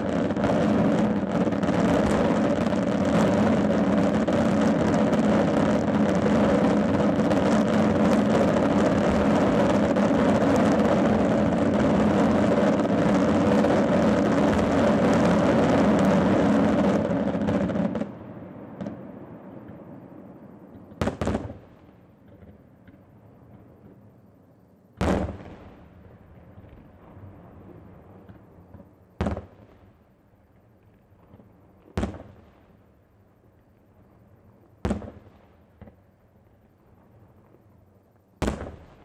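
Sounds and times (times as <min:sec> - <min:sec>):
fireworks bursting: 0:00.0 - 0:24.2, 0:25.0 - 0:32.9, 0:34.7 - 0:37.7, 0:38.3 - 0:39.0
fireworks crackle: 0:00.0 - 0:24.2, 0:25.0 - 0:39.0.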